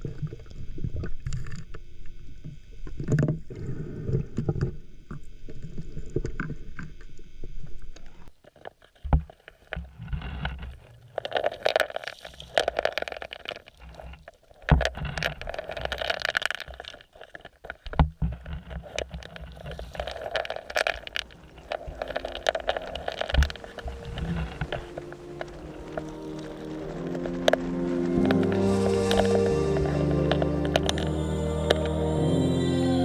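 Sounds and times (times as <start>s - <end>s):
water sloshing and bubbling: 0.0s - 32.0s.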